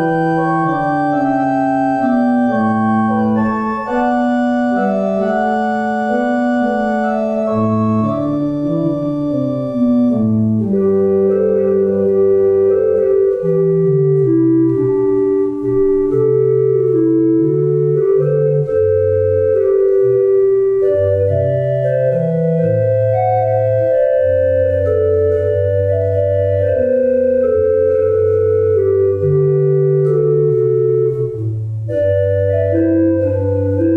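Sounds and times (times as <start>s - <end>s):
church organ playing chords: 0.0s - 33.9s.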